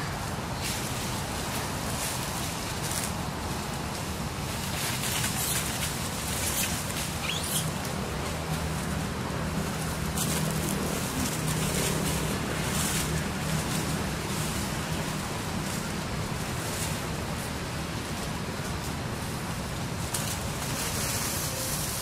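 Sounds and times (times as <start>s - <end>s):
dry leaves rustling: 0.0s - 22.0s.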